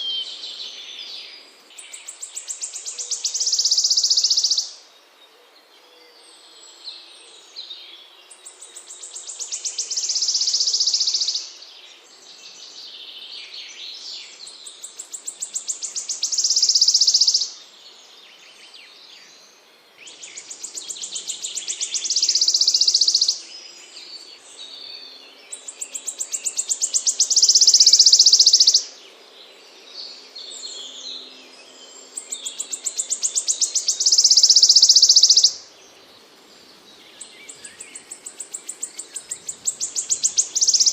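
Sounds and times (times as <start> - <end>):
songbird trilling song: 0.0 - 4.9, 5.8 - 40.9
faint bird chirps: 0.0 - 29.0, 29.7 - 40.9.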